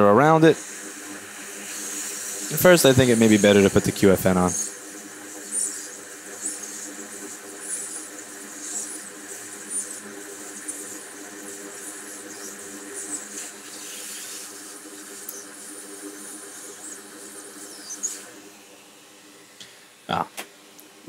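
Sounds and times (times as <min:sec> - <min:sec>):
fan motor humming and hissing: 0:00.0 - 0:21.0.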